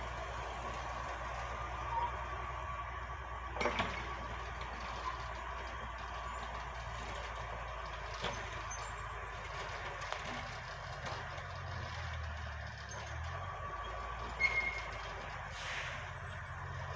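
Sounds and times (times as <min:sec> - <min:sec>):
heavy machine engine running: 0:00.0 - 0:16.9.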